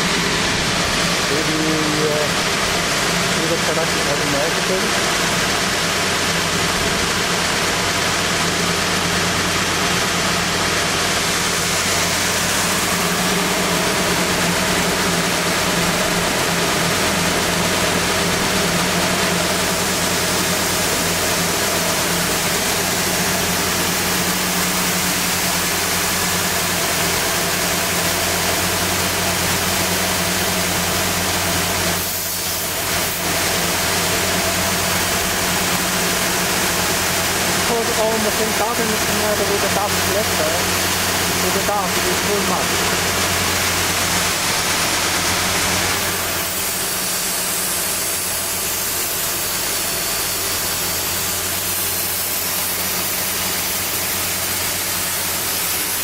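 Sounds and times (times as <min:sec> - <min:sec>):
motor hum: 0:00.0 - 0:56.0.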